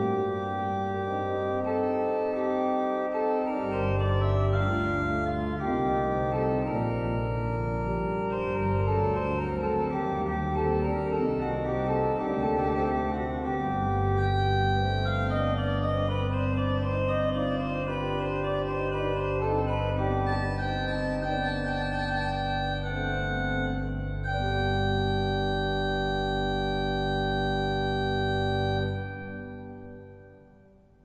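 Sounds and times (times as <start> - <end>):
deep organ bass notes: 0.0 - 30.4
pipe organ sustained chords: 0.0 - 30.8.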